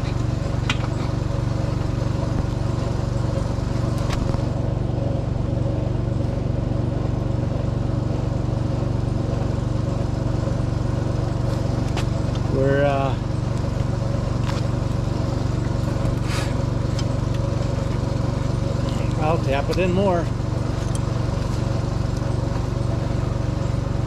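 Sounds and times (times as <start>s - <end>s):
motor droning: 0.0s - 24.0s.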